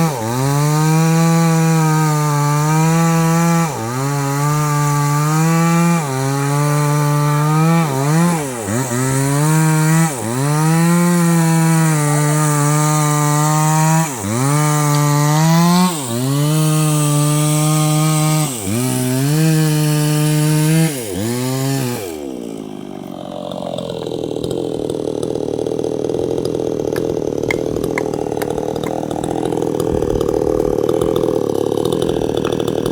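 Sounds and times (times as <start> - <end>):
chainsaw cutting tree: 0.0 - 32.9
chainsaw idling: 0.0 - 32.9.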